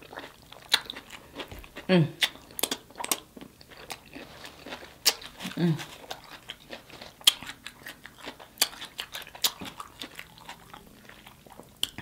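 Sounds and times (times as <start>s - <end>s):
person chewing and lip smacking: 0.0s - 12.0s.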